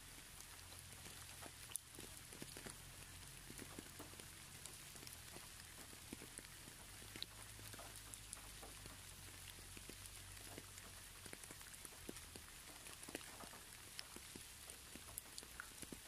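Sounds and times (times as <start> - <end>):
rain hiss: 0.0 - 16.0
raindrops ticking: 0.0 - 16.0.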